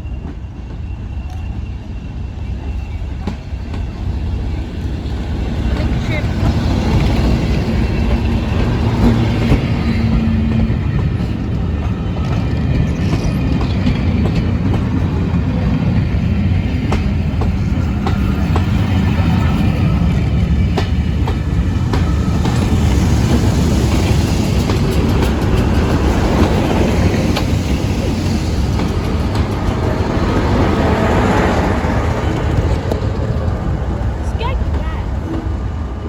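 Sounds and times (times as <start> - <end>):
diesel train rumbling past: 0.0 - 36.0
wheels clacking on rail joints: 5.1 - 35.5.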